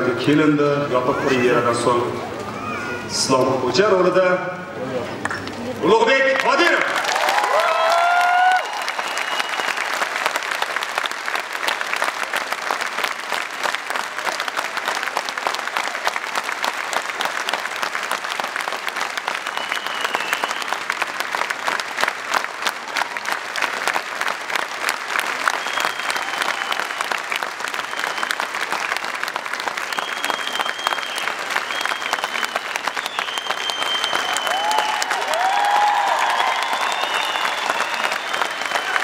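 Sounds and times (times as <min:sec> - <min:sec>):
audience applauding: 0:05.2 - 0:39.0.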